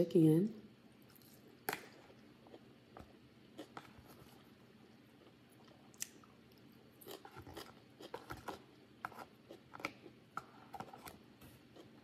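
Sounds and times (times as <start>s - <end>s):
person chewing food: 1.0s - 12.0s.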